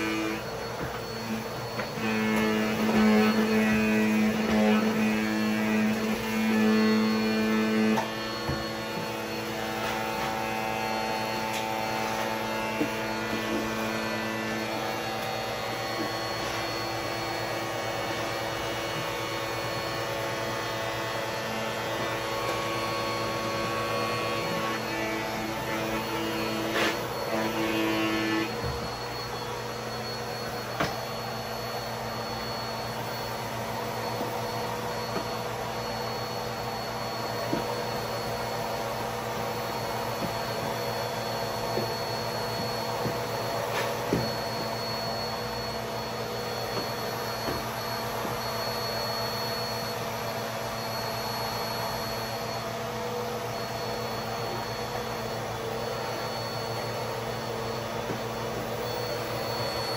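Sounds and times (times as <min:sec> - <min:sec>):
upright vacuum cleaner running: 0:00.0 - 0:59.9.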